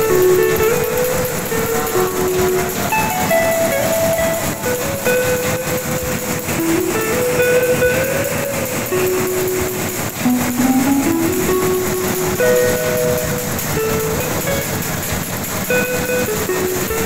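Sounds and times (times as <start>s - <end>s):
machine running steadily: 0.0s - 17.0s.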